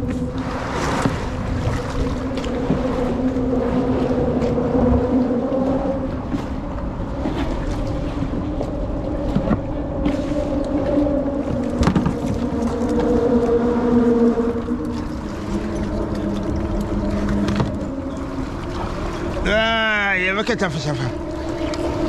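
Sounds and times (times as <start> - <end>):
boat engine humming: 0.0 - 22.0
wind on microphone: 0.0 - 22.0.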